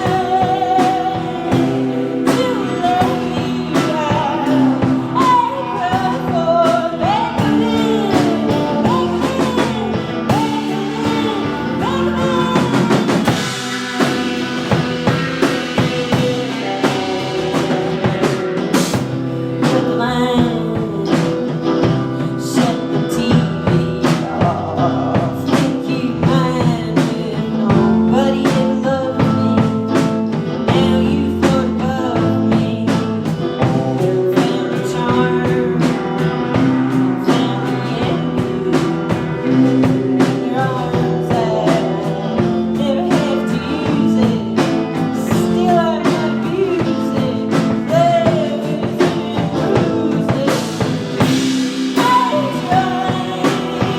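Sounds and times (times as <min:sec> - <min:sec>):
live rock band playing: 0:00.0 - 0:53.9
person singing: 0:00.0 - 0:53.9.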